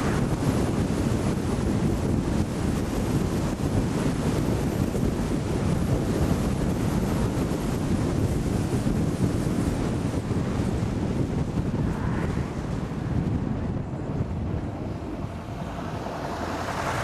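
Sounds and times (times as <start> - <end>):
wind and road noise in car: 0.0 - 17.0.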